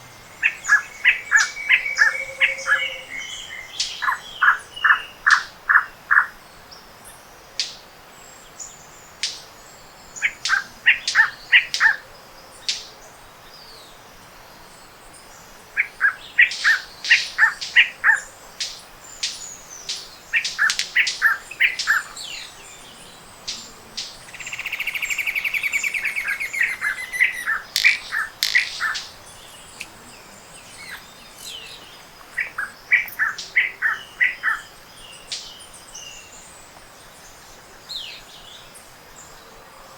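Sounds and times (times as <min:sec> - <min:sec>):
birds chirping: 0:00.0 - 0:06.4, 0:08.4 - 0:14.0, 0:14.6 - 0:39.9.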